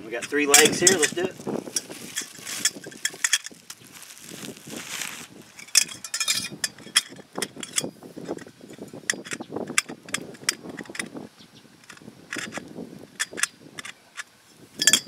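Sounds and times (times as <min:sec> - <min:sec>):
metal tubes clinking: 0:00.1 - 0:11.1, 0:13.2 - 0:15.0.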